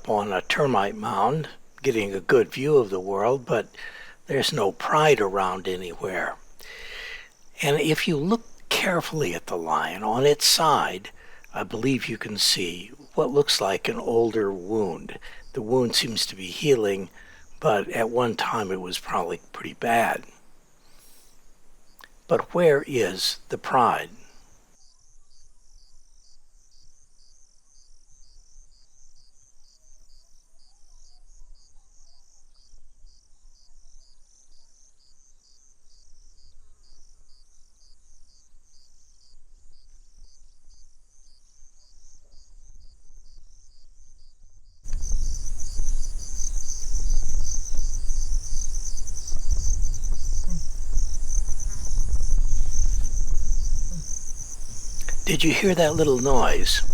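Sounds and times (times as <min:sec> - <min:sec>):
insects trilling: 0:00.0 - 0:44.3, 0:44.9 - 0:56.9.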